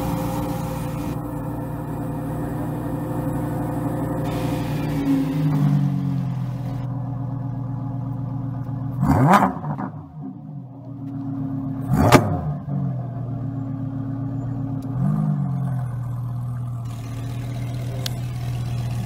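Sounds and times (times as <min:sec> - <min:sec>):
sports car engine idling and revving: 0:00.0 - 0:19.0.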